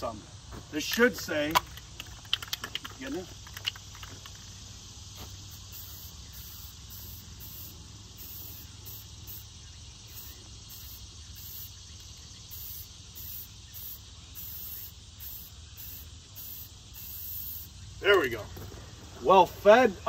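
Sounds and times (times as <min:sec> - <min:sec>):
spray paint can hissing: 0:01.6 - 0:17.8.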